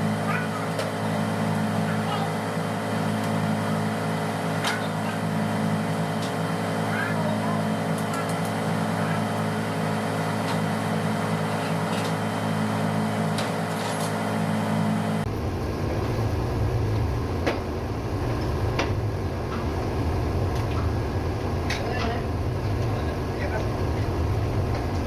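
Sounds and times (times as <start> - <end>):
diesel engine-room machinery drone: 0.0 - 25.0.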